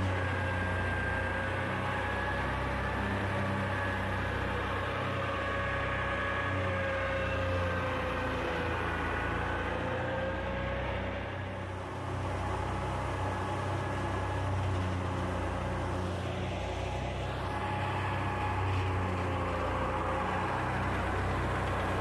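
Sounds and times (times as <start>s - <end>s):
threshing machine whine: 0.0s - 22.0s
tractor engine drone: 0.0s - 22.0s.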